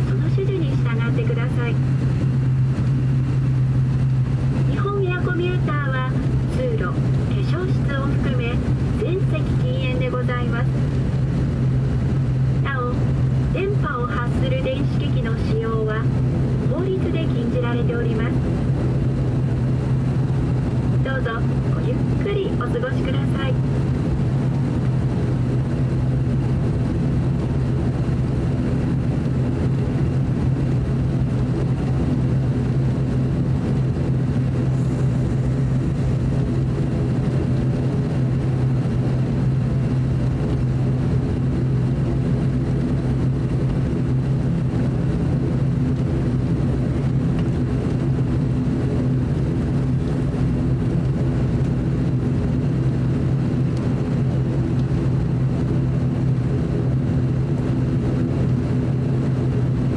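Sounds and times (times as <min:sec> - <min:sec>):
turboprop engines drone: 0:00.0 - 0:59.9.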